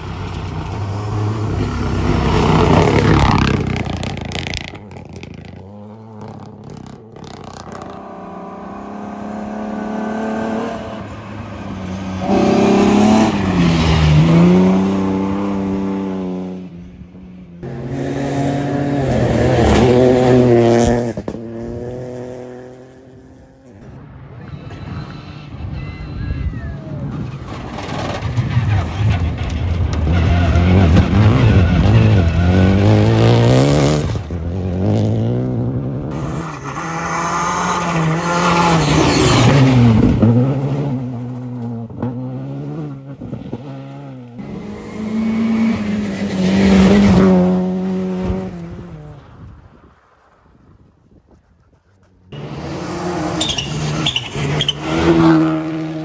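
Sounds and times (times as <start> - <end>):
rally car engines revving past: 0.0 - 24.0, 27.1 - 49.4, 52.3 - 56.0.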